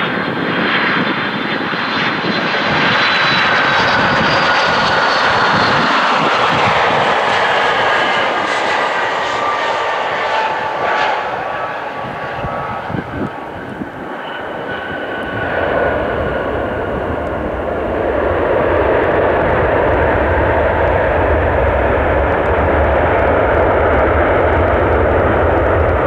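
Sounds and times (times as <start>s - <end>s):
faint jet whine: 0.0s - 26.0s
jet engines roaring: 0.0s - 26.0s.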